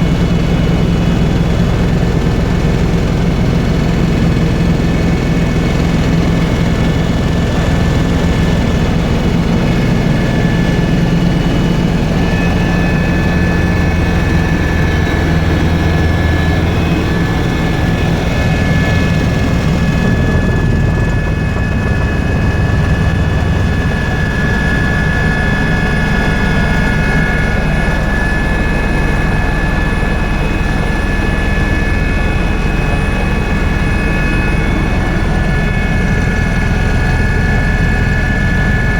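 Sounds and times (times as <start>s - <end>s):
helicopter drone in flight: 0.0s - 38.9s
high whine: 0.0s - 38.9s.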